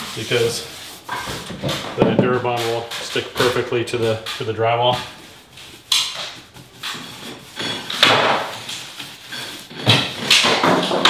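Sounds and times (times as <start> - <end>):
paintbrush scrubbing on wall: 0.0 - 10.2.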